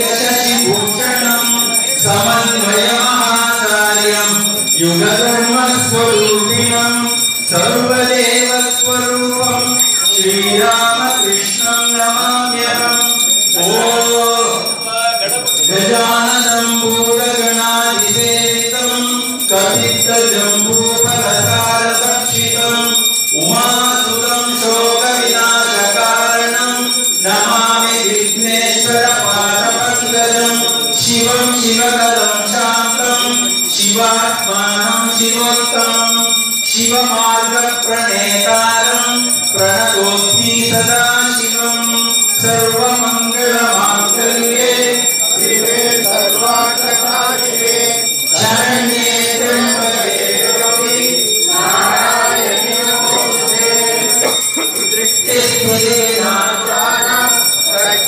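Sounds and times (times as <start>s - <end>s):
monks singing a hymn in unison: 0.0s - 14.8s, 15.4s - 58.0s
steady high ringing: 0.0s - 58.0s.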